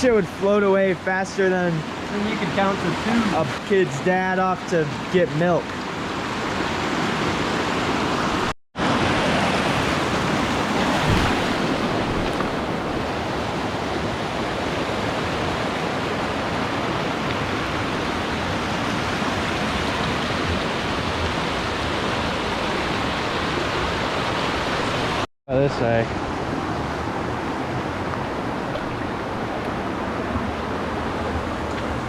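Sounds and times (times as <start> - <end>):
creek rushing: 0.1 - 32.0.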